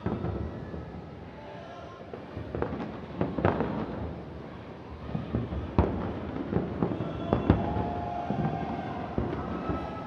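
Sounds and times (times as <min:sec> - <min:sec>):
distant fireworks bangs: 0:00.0 - 0:01.1, 0:02.1 - 0:10.0.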